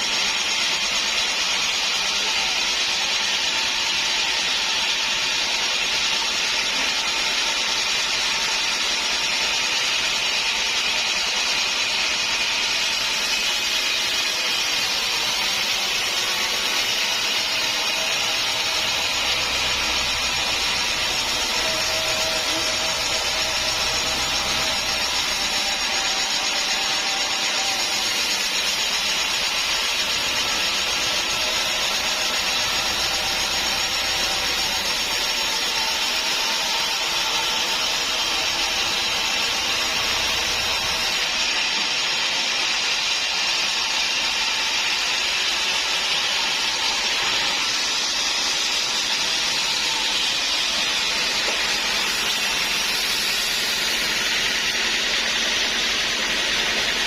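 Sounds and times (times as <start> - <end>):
saw cutting wood: 0.0 - 57.0.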